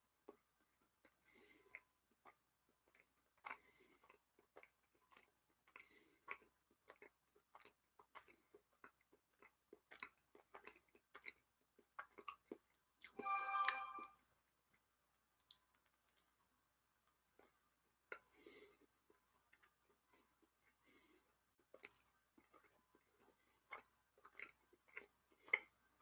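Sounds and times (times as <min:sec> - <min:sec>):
person chewing: 0:01.0 - 0:13.1, 0:17.0 - 0:26.0.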